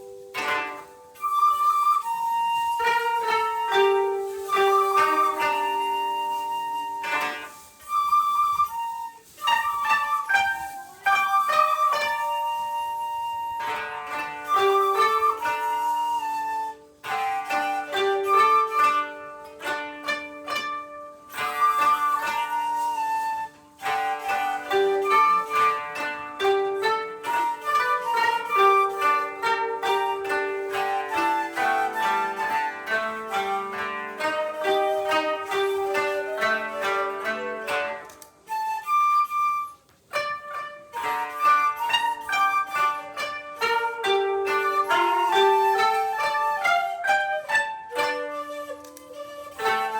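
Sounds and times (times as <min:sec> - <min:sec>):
plucked koto notes: 0:00.0 - 0:49.9
shakuhachi tones: 0:00.0 - 0:49.9.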